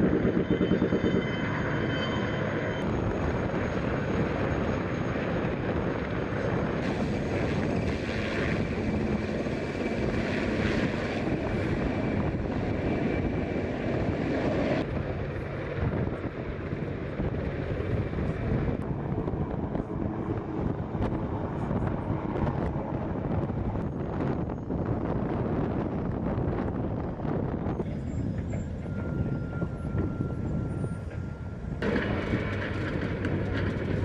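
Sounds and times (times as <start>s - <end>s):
aircraft engine noise: 0.0s - 34.0s
wind buffeting microphone: 0.0s - 34.0s.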